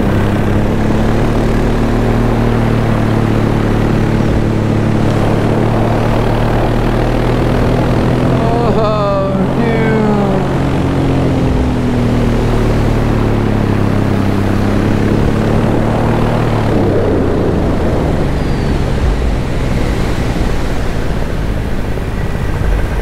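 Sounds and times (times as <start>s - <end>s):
paramotor engine and propeller: 0.0s - 23.0s
wind rush on microphone: 0.0s - 23.0s.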